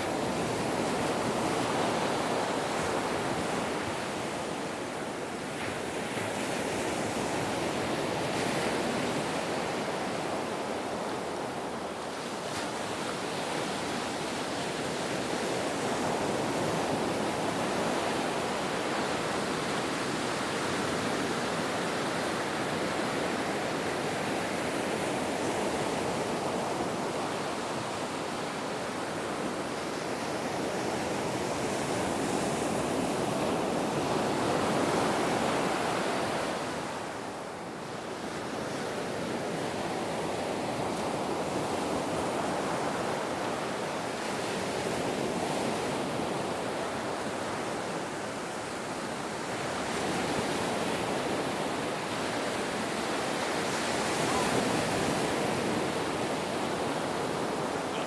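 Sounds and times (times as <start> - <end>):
ocean waves washing on shore: 0.0 - 58.0.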